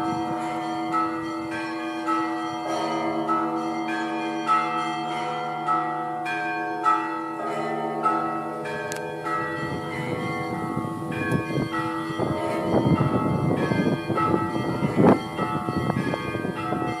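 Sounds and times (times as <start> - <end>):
deep church bells ringing: 0.0 - 17.0.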